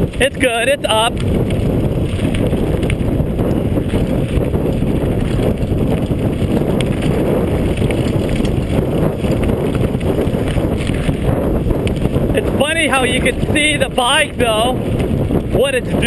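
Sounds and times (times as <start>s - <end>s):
bike clicks and rattles: 0.0s - 16.0s
tyres rolling on dirt: 0.0s - 16.0s
wind buffeting microphone: 0.0s - 16.0s.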